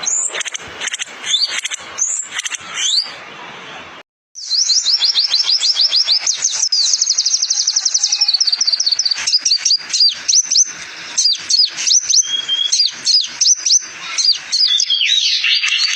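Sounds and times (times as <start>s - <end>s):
fast bird trill: 0.0s - 3.2s, 4.4s - 15.9s
sharp rising bird chirps: 0.0s - 3.2s, 4.4s - 15.9s.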